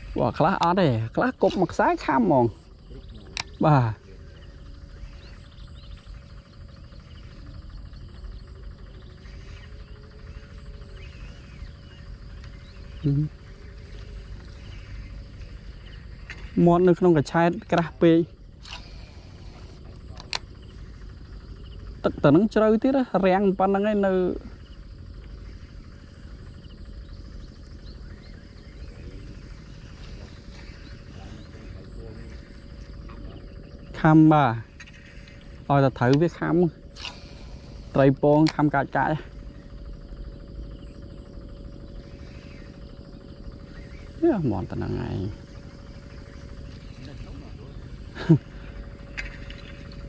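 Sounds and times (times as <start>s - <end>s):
insects and frogs trilling: 0.0s - 50.0s.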